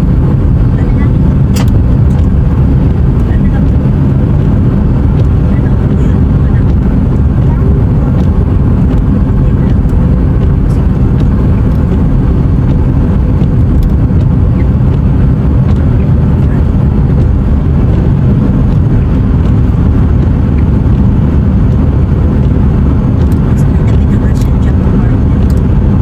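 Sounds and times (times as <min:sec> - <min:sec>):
road and wind rumble: 0:00.0 - 0:26.0.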